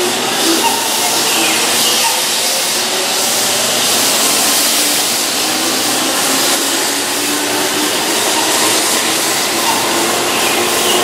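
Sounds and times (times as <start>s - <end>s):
train wheels rushing: 0.0s - 11.0s.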